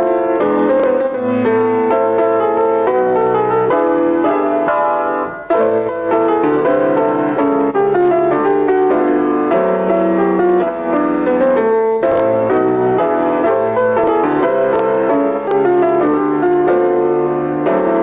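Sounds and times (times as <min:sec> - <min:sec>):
piano-like keyboard music: 0:00.0 - 0:18.0.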